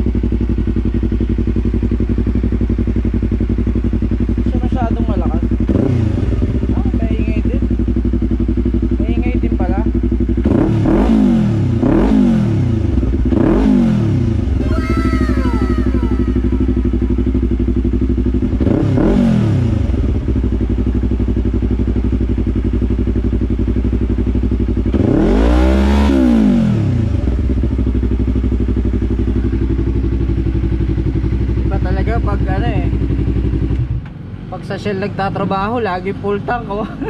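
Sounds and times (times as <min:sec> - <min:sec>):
motorcycle engine idling and revving: 0:00.0 - 0:37.0.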